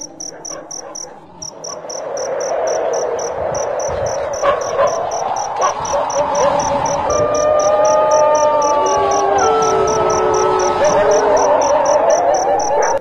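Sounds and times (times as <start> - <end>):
cricket chirping: 0.0 - 13.0
low background drone: 0.0 - 13.0.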